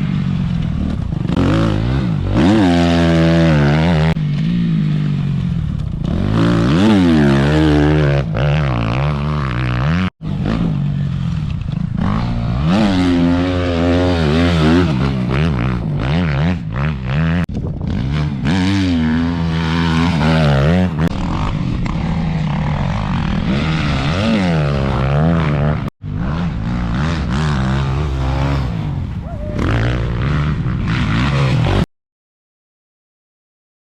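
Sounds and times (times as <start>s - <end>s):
motocross bike engine revving: 0.0s - 31.9s.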